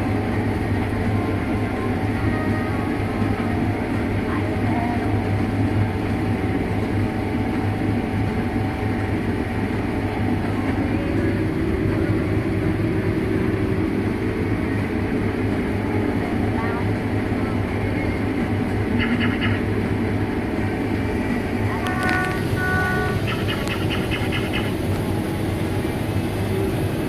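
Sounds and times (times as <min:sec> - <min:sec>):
combine harvester running: 0:00.0 - 0:27.0.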